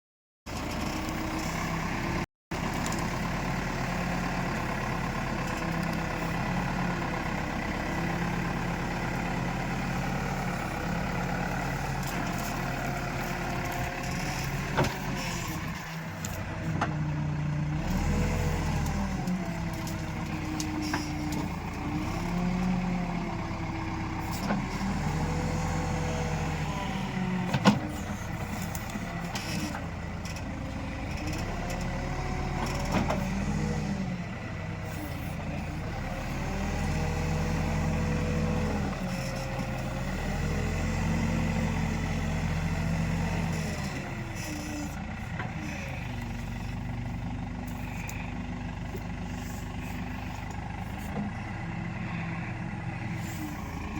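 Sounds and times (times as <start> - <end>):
diesel engine revving: 0.5 - 53.9.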